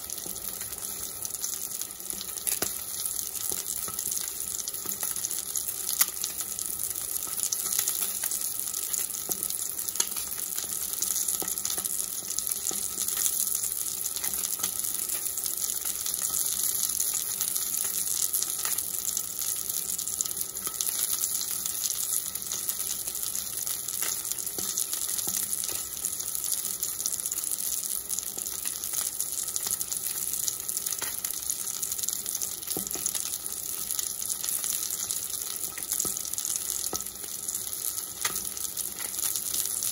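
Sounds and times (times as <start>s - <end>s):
fish sizzling in hot oil: 0.0s - 39.9s.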